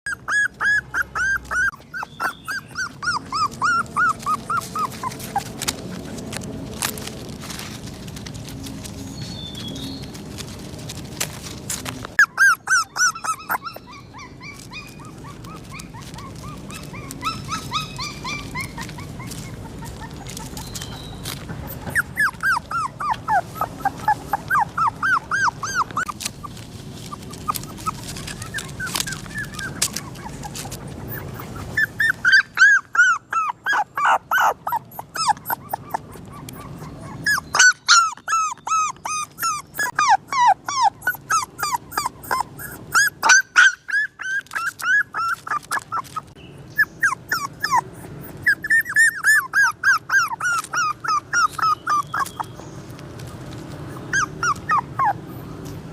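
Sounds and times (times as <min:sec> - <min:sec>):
puppy whimpering: 0:00.0 - 0:07.2, 0:11.8 - 0:55.9.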